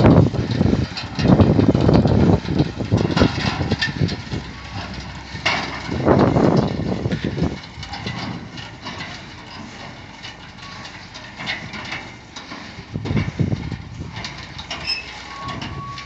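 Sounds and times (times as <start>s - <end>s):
bale elevator clattering: 0.0s - 16.0s
truck engine running: 0.0s - 16.0s.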